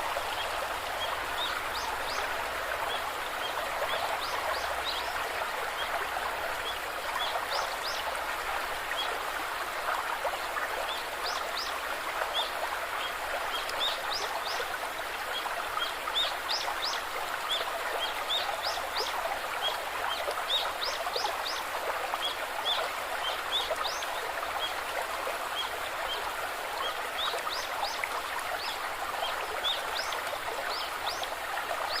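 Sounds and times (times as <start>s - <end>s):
stream running: 0.0s - 32.0s.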